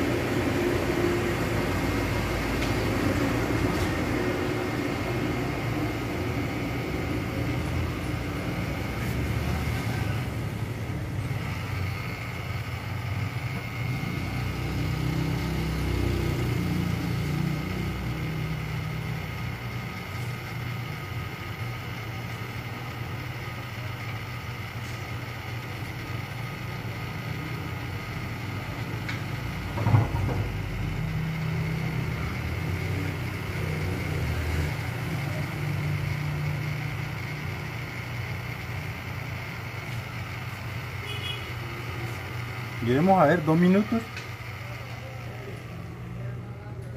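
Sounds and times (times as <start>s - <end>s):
small fan whirring: 0.0s - 46.9s.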